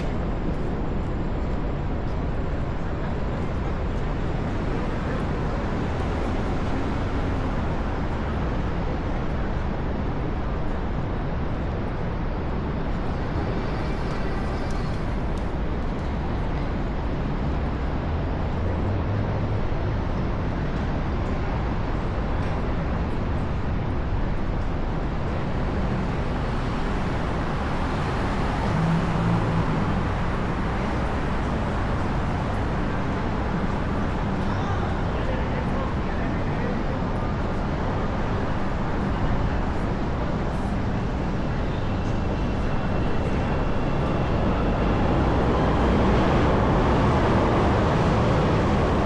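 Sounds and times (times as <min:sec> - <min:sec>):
street traffic rumble: 0:00.0 - 0:49.0.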